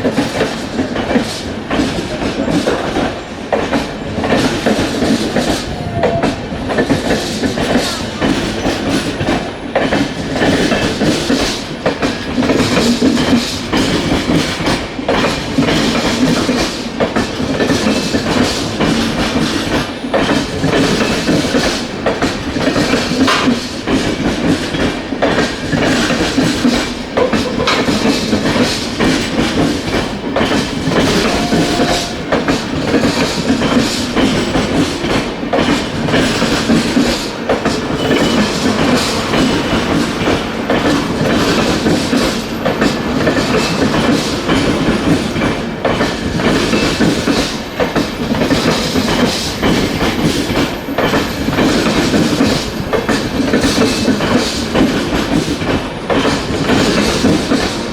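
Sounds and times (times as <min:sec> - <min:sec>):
train wheels clattering over rails: 0:00.0 - 0:57.9.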